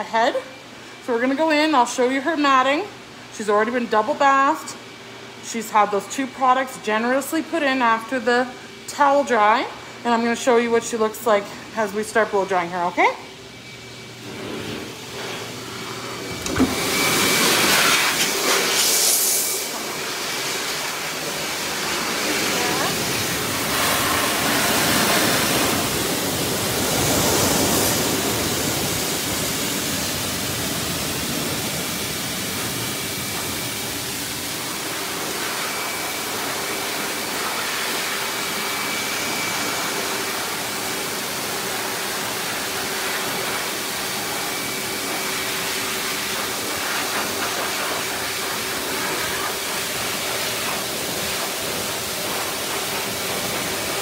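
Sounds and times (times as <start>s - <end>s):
blow dryer blowing air: 0.0s - 54.0s.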